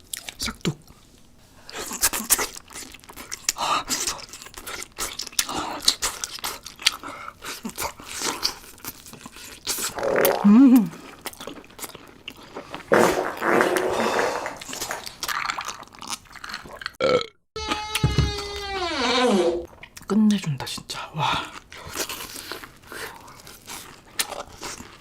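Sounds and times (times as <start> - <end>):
chewing crunchy fried food: 0.0 - 12.9, 14.6 - 17.2, 19.7 - 25.0.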